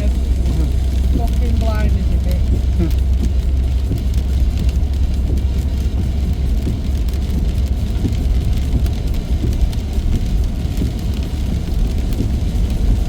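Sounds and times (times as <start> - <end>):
car engine and tyres rumble: 0.0 - 13.0
faint rain ticks: 0.0 - 13.0.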